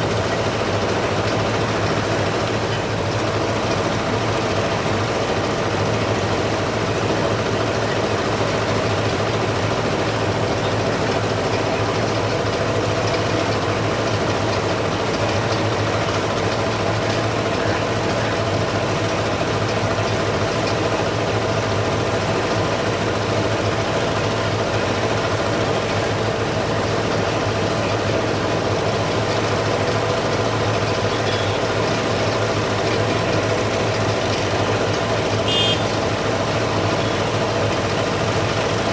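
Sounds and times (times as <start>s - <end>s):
large engine idling: 0.0s - 38.9s.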